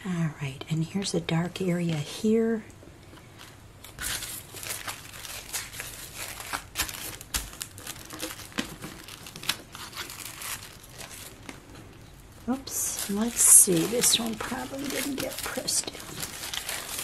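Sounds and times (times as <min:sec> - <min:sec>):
paper crinkling and rustling: 0:03.2 - 0:17.0.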